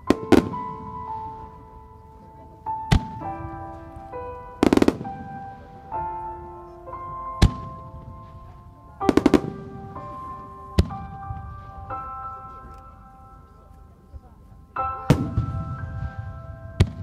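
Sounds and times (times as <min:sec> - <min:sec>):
melody of held notes: 0:00.0 - 0:17.0.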